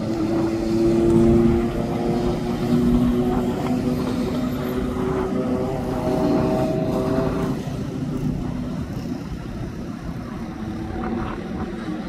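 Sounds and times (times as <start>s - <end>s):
low traffic rumble: 0.0s - 12.0s
vehicle engine droning hum: 0.0s - 12.0s.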